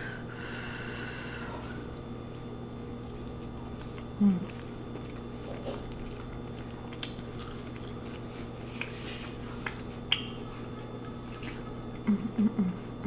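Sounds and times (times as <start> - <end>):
person chewing food: 1.7 - 12.2.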